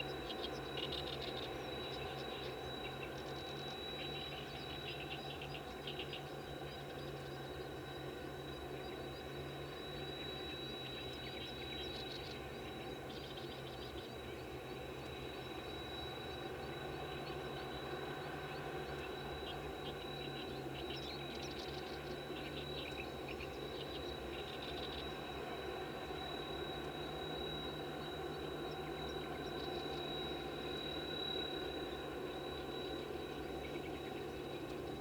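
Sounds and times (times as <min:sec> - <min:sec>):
mechanical hum: 0:00.0 - 0:35.0.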